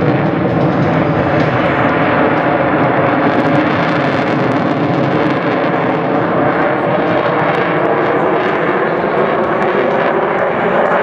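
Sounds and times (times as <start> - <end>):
loud jet engine noise: 0.0 - 11.0.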